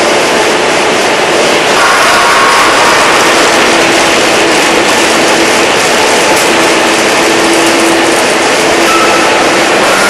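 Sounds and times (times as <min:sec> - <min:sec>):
factory machinery hiss: 0:00.0 - 0:10.0.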